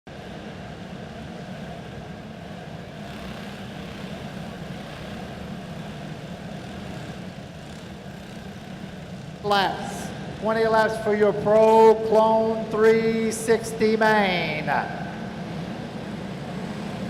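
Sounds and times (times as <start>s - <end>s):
racing kart engines droning: 0.1s - 17.0s.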